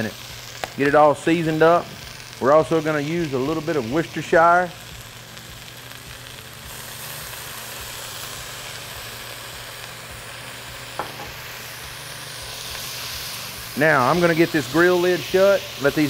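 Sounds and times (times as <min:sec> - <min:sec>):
vegetables sizzling in a pot: 0:00.0 - 0:16.0.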